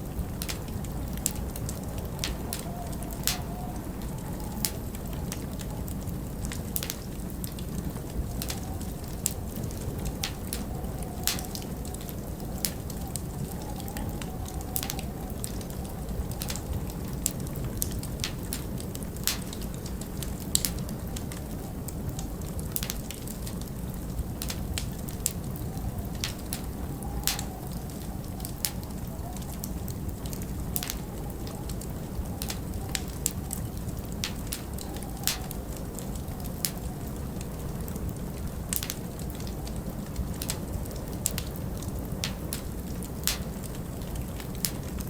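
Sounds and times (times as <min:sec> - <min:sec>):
storm wind rumbling: 0:00.0 - 0:45.0
wood fire crackling and popping: 0:00.0 - 0:45.0.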